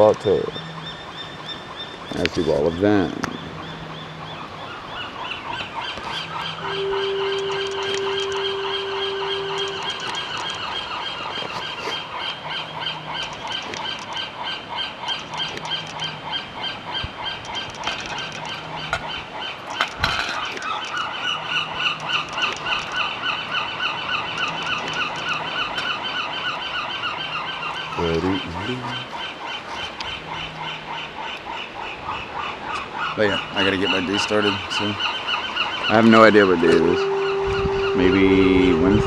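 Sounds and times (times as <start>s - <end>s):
gull chick begging calls: 0.0s - 39.0s.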